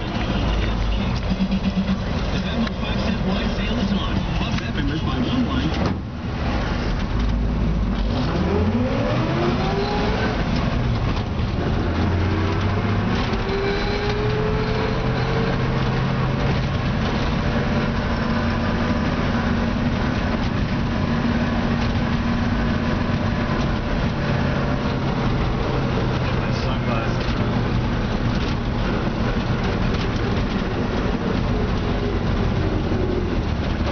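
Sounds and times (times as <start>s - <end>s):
pickup truck engine accelerating: 0.0s - 33.9s
road noise: 0.0s - 33.9s.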